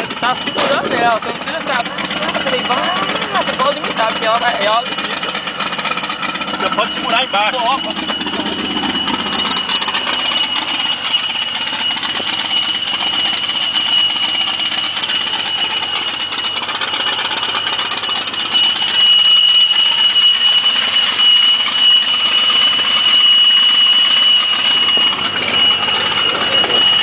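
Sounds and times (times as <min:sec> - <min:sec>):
car engine idling: 0:00.0 - 0:27.0
high-pitched whine: 0:00.0 - 0:27.0.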